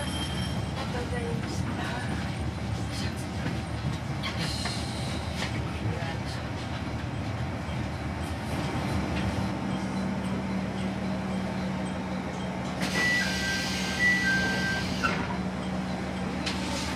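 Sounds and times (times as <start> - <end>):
diesel railcar idling: 0.0 - 16.9.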